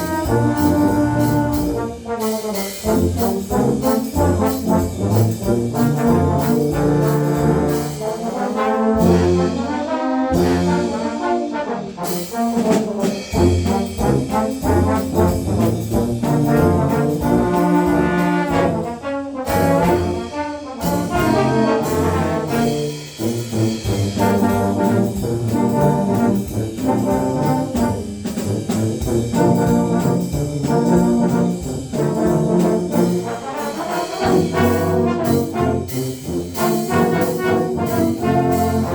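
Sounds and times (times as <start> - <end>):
low brass playing jazz march: 0.0 - 38.9.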